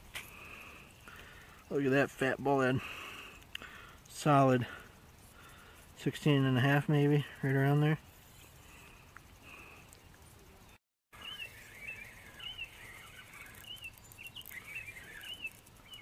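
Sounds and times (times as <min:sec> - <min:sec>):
small birds chirping: 0:00.3 - 0:16.0.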